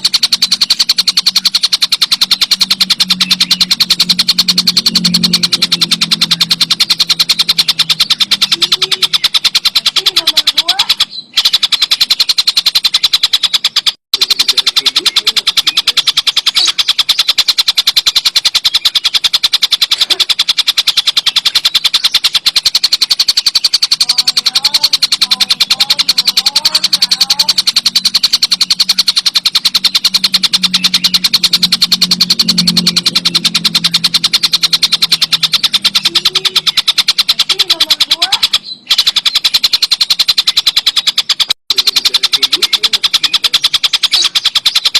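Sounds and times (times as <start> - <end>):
kingfisher rapid rattling chatter: 0.0 - 44.9.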